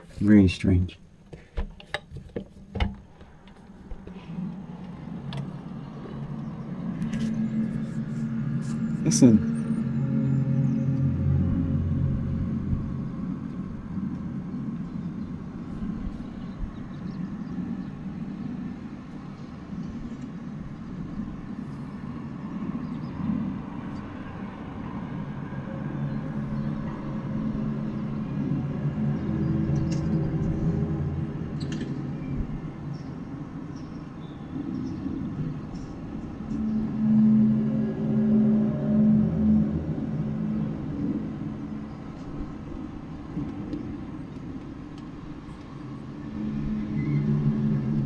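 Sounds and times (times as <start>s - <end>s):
eerie low groaning drone: 3.0s - 48.0s.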